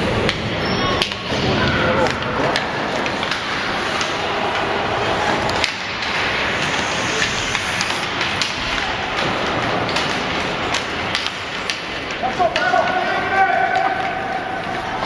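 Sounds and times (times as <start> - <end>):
hockey sticks and puck clacking: 0.0 - 15.0
skates scraping on ice: 0.0 - 15.0.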